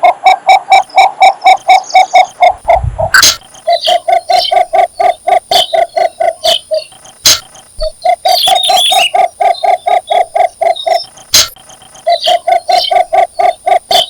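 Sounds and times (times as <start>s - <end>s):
bittern calling low notes: 0.0s - 14.0s
higher chirping: 0.4s - 14.0s.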